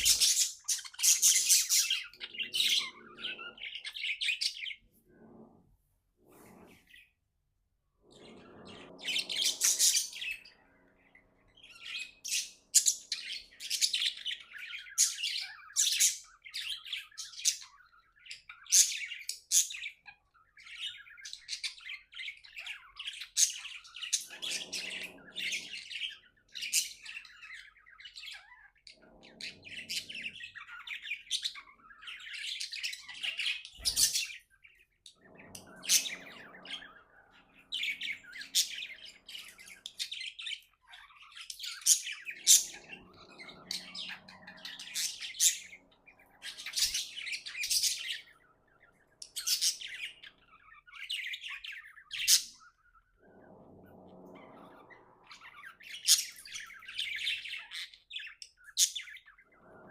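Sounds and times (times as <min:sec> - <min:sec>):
budgerigars chirping: 0:00.0 - 0:04.8, 0:08.0 - 0:59.9.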